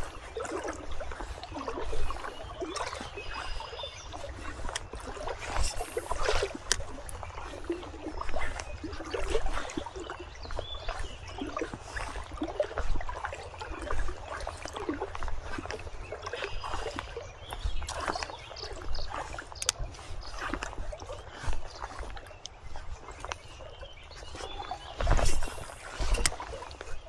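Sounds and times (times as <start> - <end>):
river water splashing around legs: 0.0 - 27.0.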